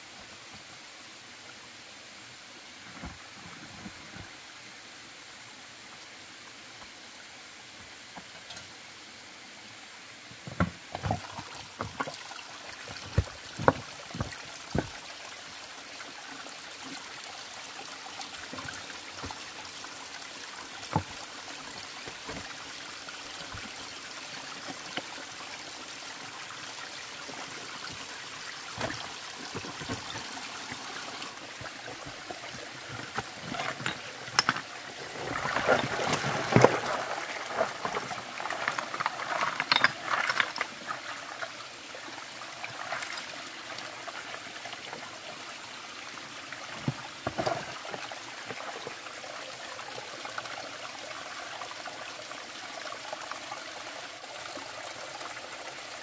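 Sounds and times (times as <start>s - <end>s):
running water trickling: 10.3s - 56.0s.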